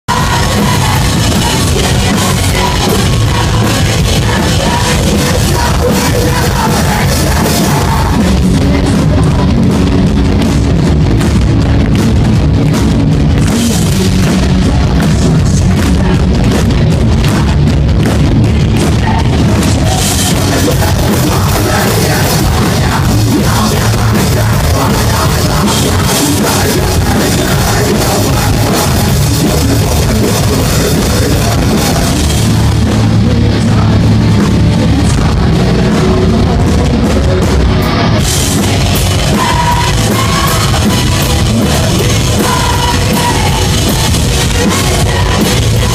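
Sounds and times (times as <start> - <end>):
person singing: 0.0 - 10.4, 18.5 - 45.9
bass guitar: 0.0 - 45.9
distorted guitars: 0.0 - 45.9
pounding drum kit: 0.0 - 45.9.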